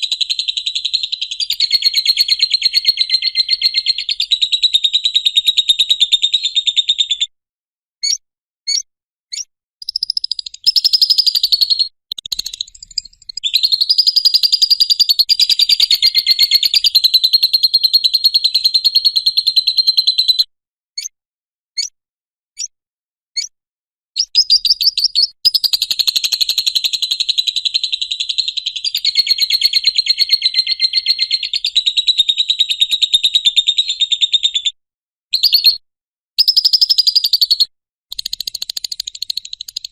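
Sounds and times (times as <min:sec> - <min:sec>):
bird chirps: 0:00.0 - 0:07.3, 0:08.0 - 0:21.1, 0:24.2 - 0:35.8, 0:36.4 - 0:39.9.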